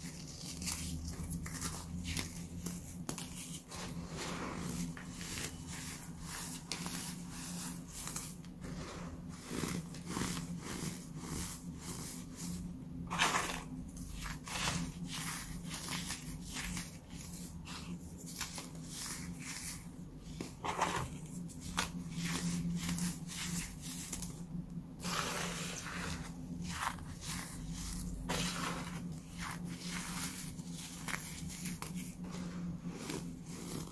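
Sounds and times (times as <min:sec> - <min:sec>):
baking soda crunching: 0:00.0 - 0:33.9.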